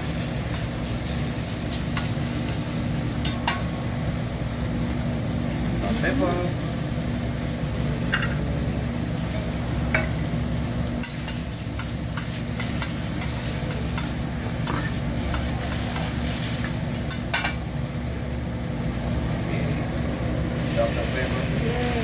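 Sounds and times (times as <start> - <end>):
food sizzling on griddle: 0.0 - 22.0
steady low hum: 0.0 - 22.0.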